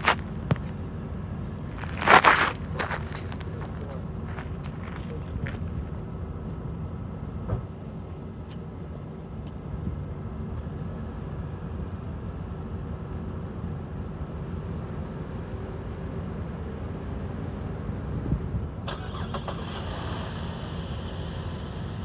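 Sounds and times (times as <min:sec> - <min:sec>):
faint constant hum: 0:00.0 - 0:22.0
low outdoor rumble: 0:00.0 - 0:22.0.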